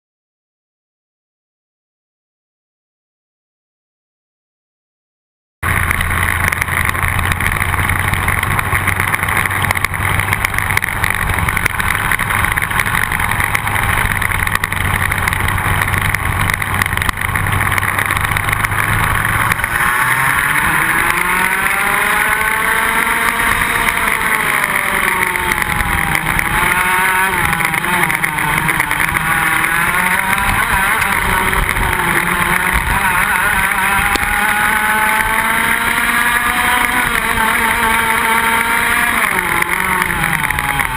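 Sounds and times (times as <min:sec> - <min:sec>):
kart engine revving: 0:05.6 - 0:40.9.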